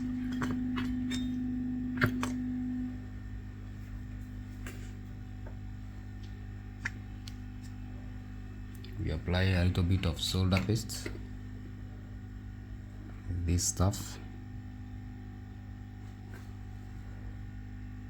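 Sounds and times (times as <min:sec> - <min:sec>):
bench equipment humming: 0:00.0 - 0:18.0
faint mains hum: 0:00.0 - 0:18.0.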